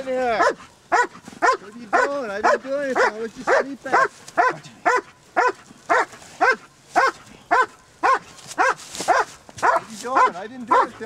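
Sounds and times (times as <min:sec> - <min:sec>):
dog barking: 0:00.3 - 0:11.0.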